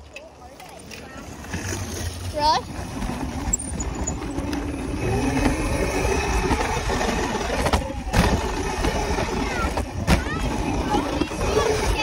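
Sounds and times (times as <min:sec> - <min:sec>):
dirt bike engine running: 0:01.1 - 0:12.0.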